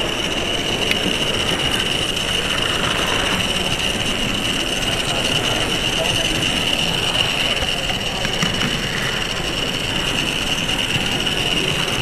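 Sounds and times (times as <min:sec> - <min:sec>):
high-pitched whine: 0:00.0 - 0:12.0
wheels rolling on rails: 0:00.0 - 0:12.0.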